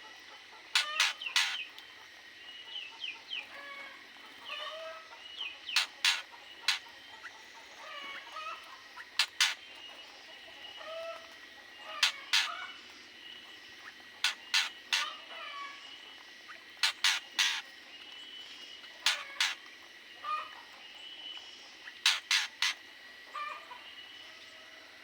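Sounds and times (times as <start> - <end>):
chickens clucking: 0.0 - 12.9, 13.8 - 17.8, 18.9 - 20.9, 21.9 - 23.9.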